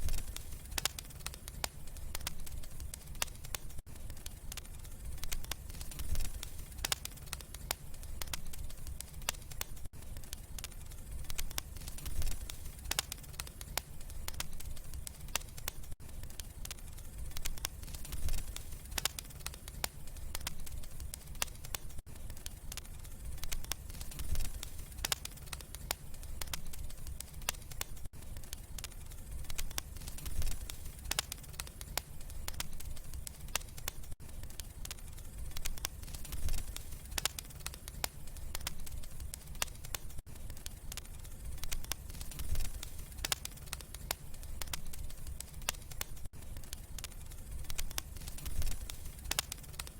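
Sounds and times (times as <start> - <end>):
low rumble of flames: 0.0 - 49.9
wood fire crackling and popping: 0.0 - 49.9.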